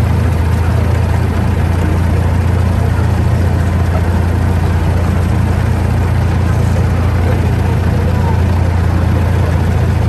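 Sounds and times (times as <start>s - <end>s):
miniature train engine droning: 0.0s - 10.0s.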